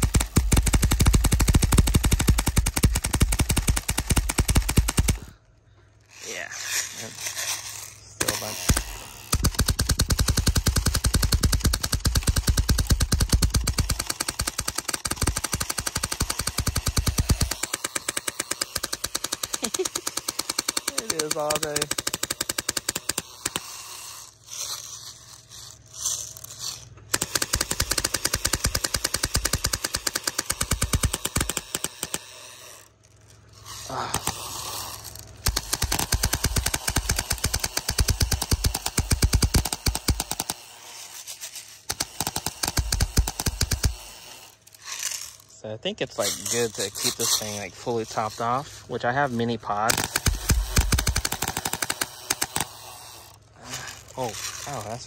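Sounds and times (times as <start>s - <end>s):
airsoft gun rapid firing: 0.0s - 5.4s, 7.2s - 25.4s, 27.1s - 32.8s, 33.6s - 45.4s, 46.2s - 54.8s.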